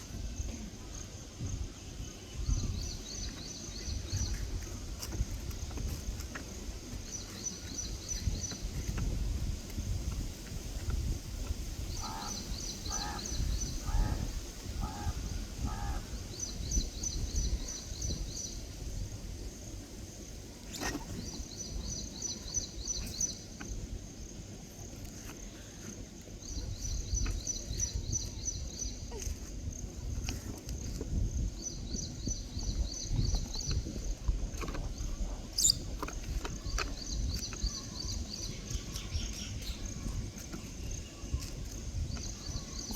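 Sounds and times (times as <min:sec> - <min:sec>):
low wind-like rumble: 0:00.0 - 0:42.9.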